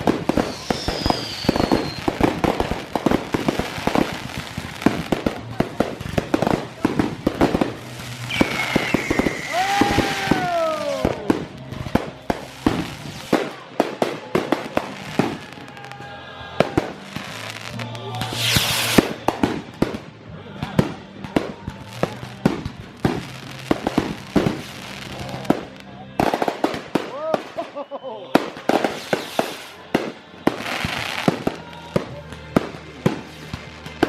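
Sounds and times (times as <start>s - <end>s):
whistling fireworks: 0.0s - 20.0s, 20.6s - 34.0s
fireworks bangs and crackles: 0.0s - 34.0s.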